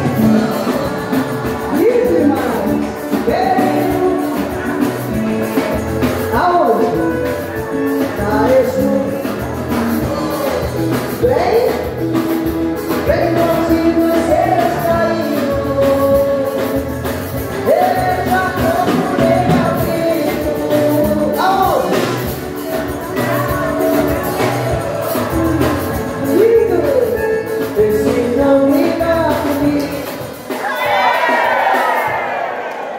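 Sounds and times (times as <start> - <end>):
lead singer singing: 0.0 - 32.1
live dance band playing: 0.0 - 32.9.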